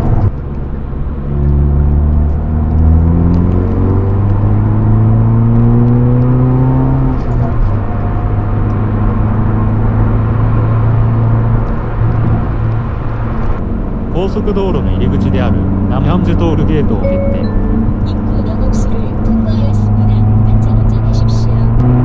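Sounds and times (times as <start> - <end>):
car engine accelerating: 0.0 - 22.0
road noise: 0.0 - 22.0.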